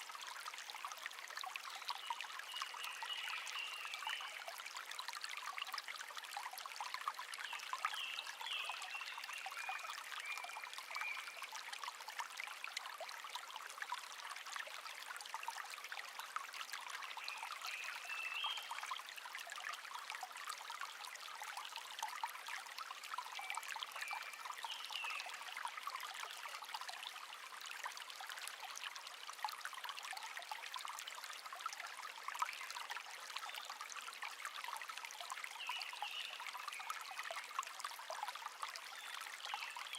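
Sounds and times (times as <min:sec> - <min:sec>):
brook trickling and babbling: 0:00.0 - 0:39.9.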